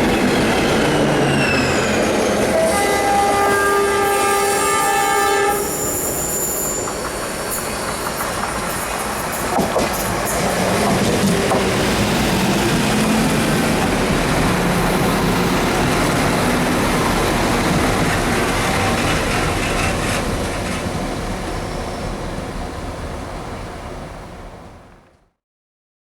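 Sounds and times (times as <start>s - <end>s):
diesel train passing: 0.0s - 25.2s.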